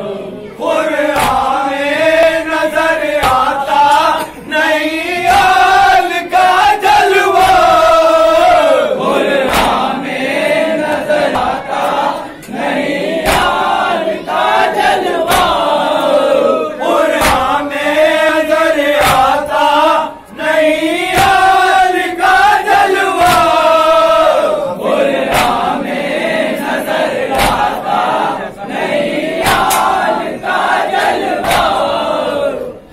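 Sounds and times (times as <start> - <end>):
men chanting in unison: 0.0 - 32.9.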